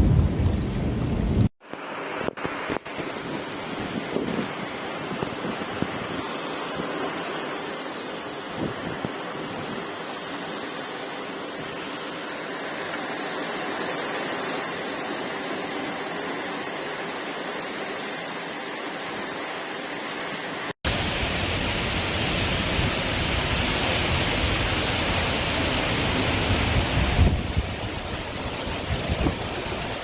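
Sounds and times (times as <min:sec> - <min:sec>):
heavy rainstorm: 0:00.0 - 0:30.0.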